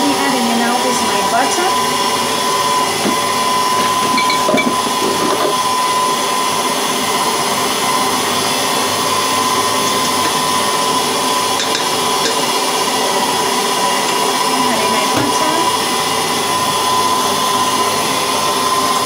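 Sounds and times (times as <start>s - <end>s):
electric mixer motor whine: 0.0s - 19.0s.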